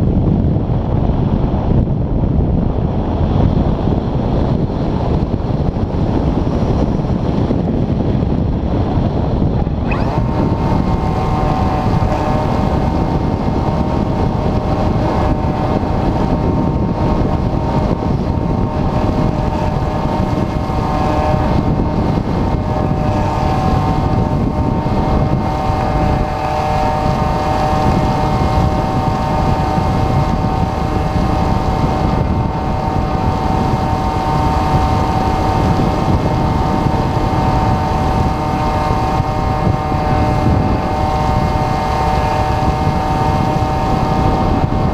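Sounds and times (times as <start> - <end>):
airflow buffeting microphone: 0.0 - 44.9
electric motor whine: 3.5 - 44.9.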